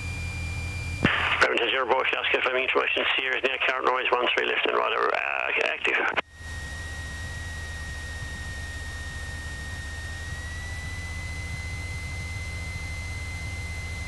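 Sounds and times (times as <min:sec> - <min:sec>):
piston engine drone: 0:00.0 - 0:04.0, 0:06.2 - 0:14.0
thin high whine: 0:00.0 - 0:14.0.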